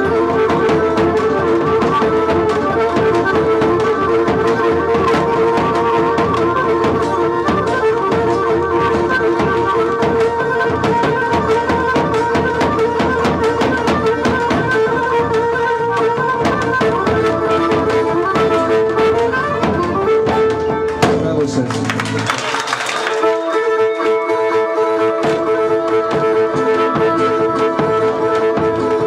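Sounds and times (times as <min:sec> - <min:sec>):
folk dance melody: 0:00.0 - 0:29.0.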